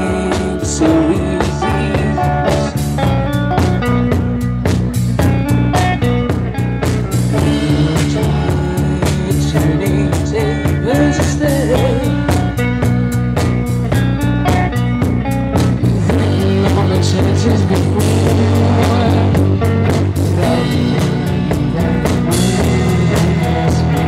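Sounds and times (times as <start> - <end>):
drum kit beat: 0.0 - 24.0
electric bass: 0.0 - 24.0
electric guitar: 0.0 - 24.0.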